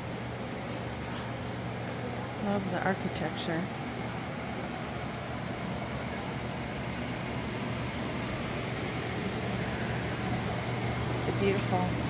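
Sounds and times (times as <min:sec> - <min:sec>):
electric fans whooshing: 0:00.0 - 0:12.0.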